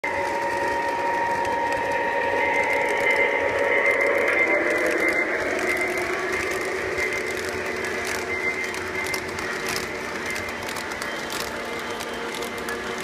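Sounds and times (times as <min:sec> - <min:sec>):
model train whirring on rails: 0:00.0 - 0:13.0.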